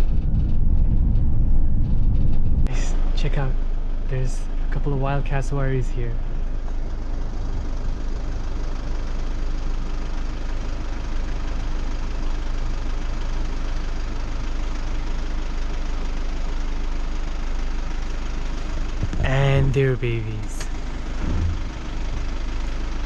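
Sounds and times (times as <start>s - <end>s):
engine rumble inside cab: 0.0s - 23.0s.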